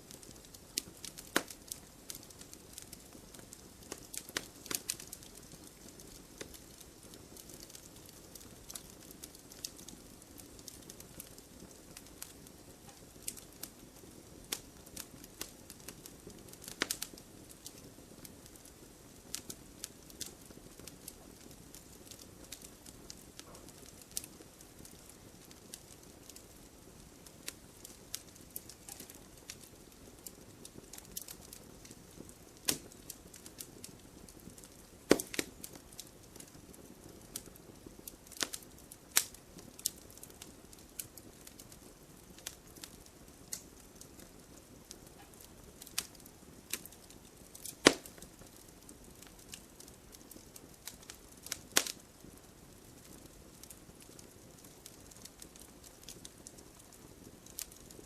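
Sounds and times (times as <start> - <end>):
faint steady hiss: 0.0 - 58.0
wood fire crackling and popping: 0.0 - 58.0.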